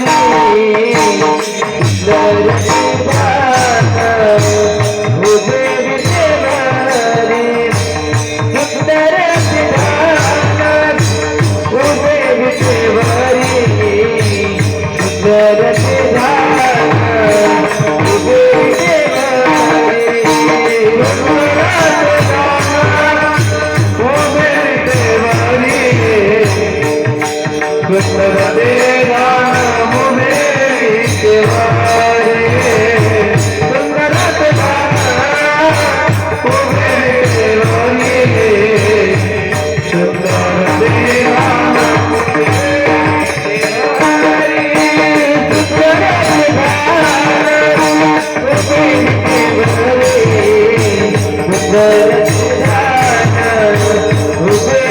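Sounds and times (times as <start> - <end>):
hand drum beating: 0.0 - 54.9
jingling hand percussion: 0.0 - 54.9
person singing: 0.0 - 54.9.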